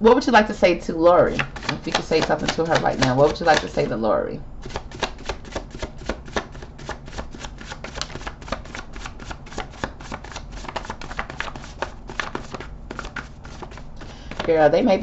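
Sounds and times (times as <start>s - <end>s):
cards clicking while shuffled: 1.3s - 3.9s, 4.6s - 14.6s.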